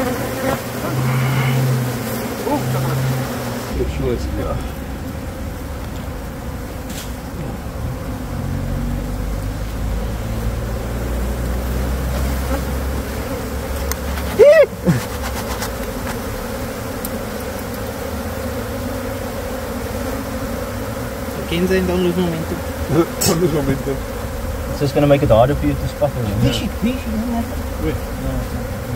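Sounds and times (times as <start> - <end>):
bees buzzing: 0.0 - 28.9
loud buzz rising and falling: 0.0 - 28.9.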